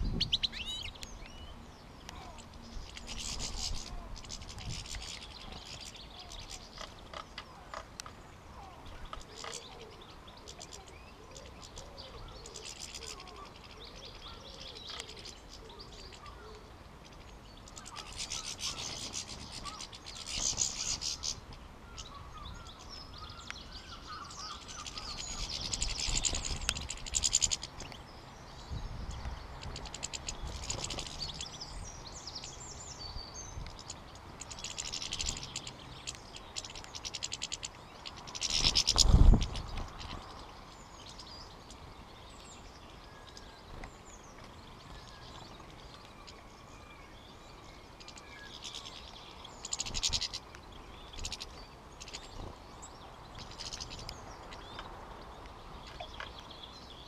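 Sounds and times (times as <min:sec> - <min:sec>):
goldfinches chirping: 0:00.0 - 0:57.0.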